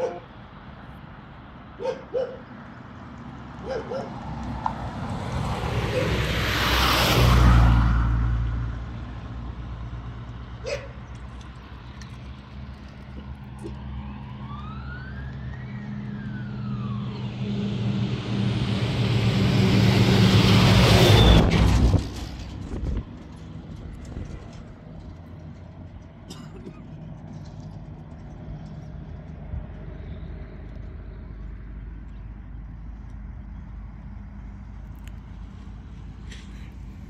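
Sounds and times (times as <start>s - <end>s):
steady engine hum: 0.0s - 37.0s
vehicles passing close by: 0.0s - 37.0s.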